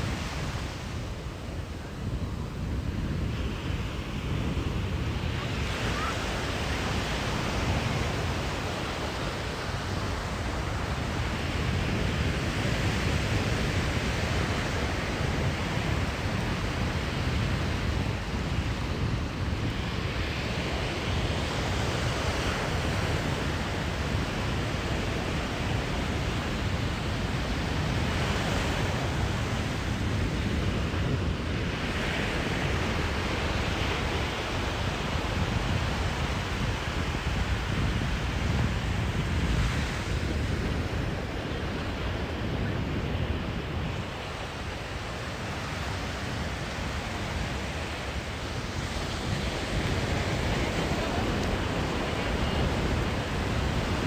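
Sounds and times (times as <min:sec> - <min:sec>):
ocean surf washing on beach: 0:00.0 - 0:54.0
wind buffeting microphone: 0:00.0 - 0:54.0.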